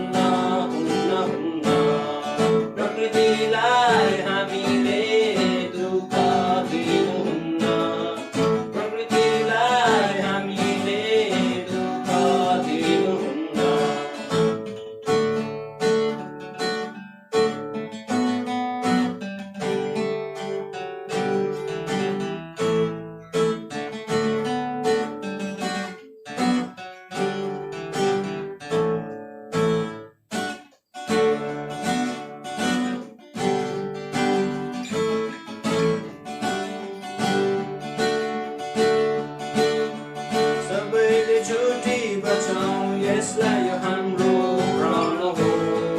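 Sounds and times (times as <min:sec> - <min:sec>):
acoustic guitar strumming: 0:00.0 - 0:45.9.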